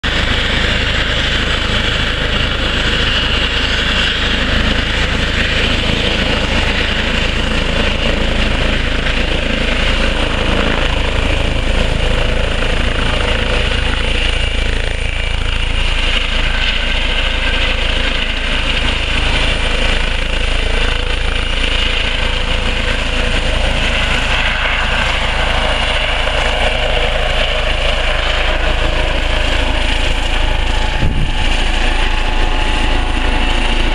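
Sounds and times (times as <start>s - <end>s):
helicopter rotor rumble: 0.0s - 33.9s
helicopter turbine whine: 0.0s - 33.9s.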